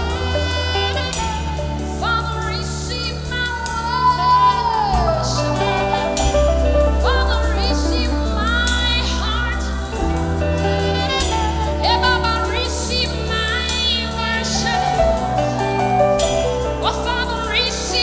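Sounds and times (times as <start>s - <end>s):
band playing: 0.0s - 18.0s
person singing gospel song: 0.0s - 18.0s.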